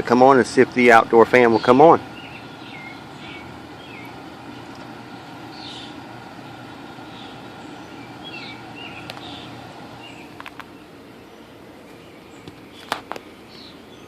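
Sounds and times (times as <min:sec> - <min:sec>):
air conditioner humming: 0:00.0 - 0:14.0
birds chirping: 0:00.0 - 0:14.0.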